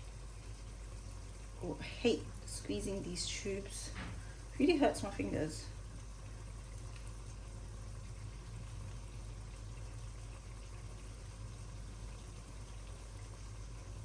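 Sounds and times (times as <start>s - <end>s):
pot hissing on hob: 0.0s - 14.0s.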